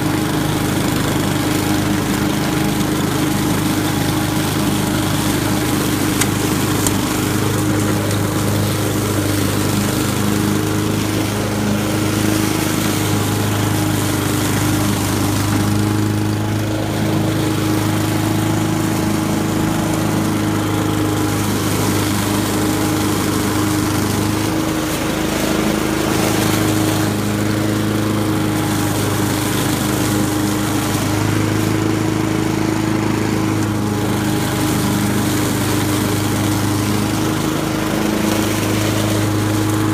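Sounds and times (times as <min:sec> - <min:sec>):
lawn mower engine running: 0:00.0 - 0:39.9
mower cutting through leaves: 0:00.0 - 0:39.9.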